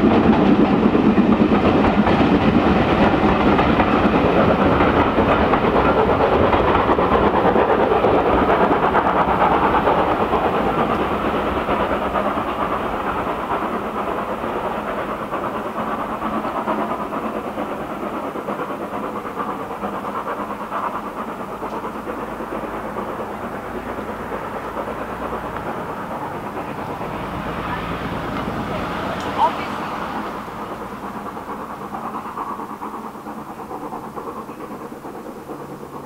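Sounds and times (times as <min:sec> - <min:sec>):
train running: 0:00.0 - 0:36.0.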